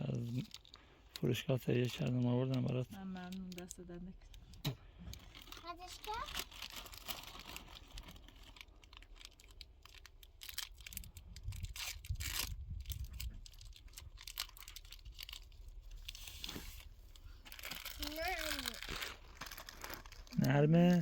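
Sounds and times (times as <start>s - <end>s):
packaging rustling and crinkling: 0.0s - 3.8s, 5.1s - 21.0s.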